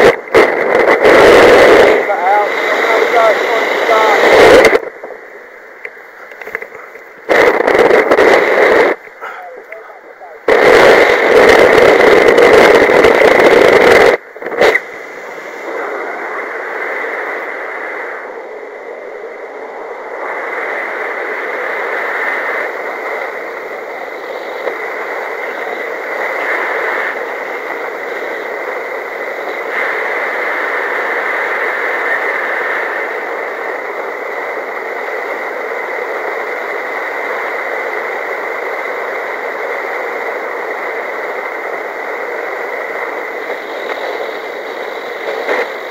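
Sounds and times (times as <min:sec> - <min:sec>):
distorted two-way radio transmission: 0:00.0 - 0:45.9
steady rushing noise: 0:00.0 - 0:45.9.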